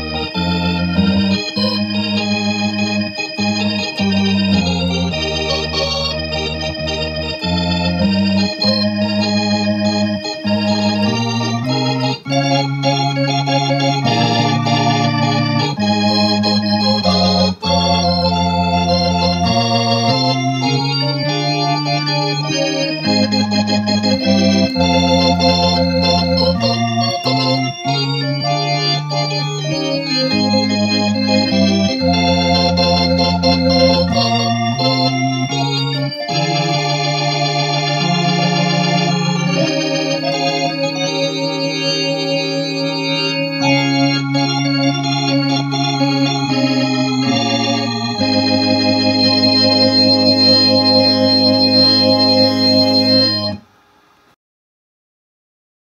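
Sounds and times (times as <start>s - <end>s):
organ chords with rotary effect: 0.0s - 53.6s.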